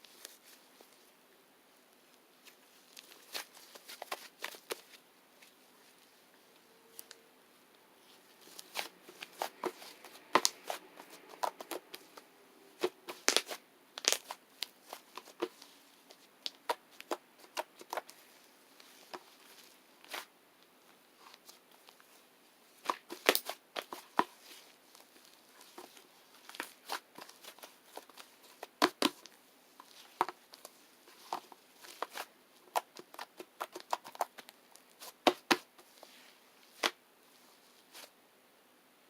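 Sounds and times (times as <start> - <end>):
crinkly rustling: 2.0 - 7.2, 8.0 - 38.1.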